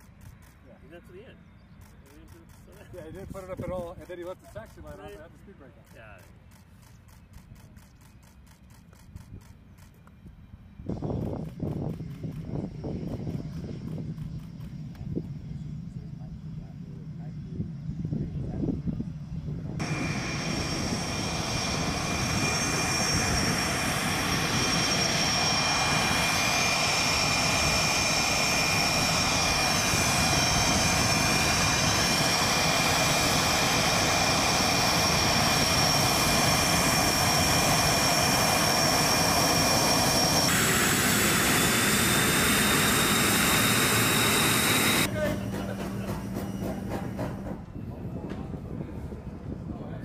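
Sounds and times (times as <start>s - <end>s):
jet engines roaring with high whine: 0.0s - 50.0s.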